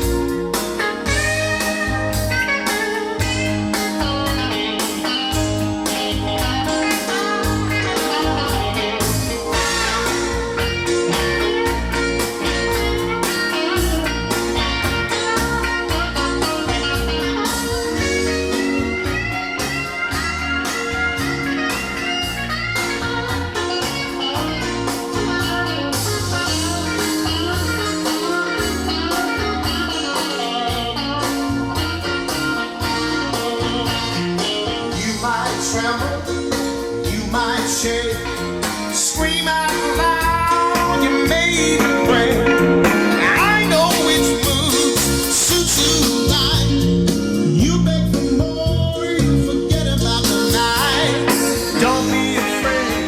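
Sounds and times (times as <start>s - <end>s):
bass guitar: 0.0s - 53.0s
blues guitar: 0.0s - 53.0s
steady drum beat: 0.0s - 53.0s.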